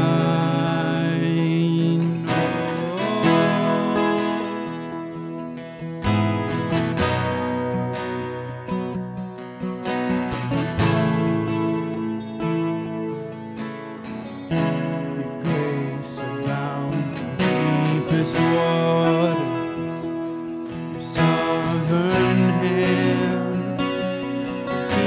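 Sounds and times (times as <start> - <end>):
acoustic guitars strummed: 0.0 - 25.0.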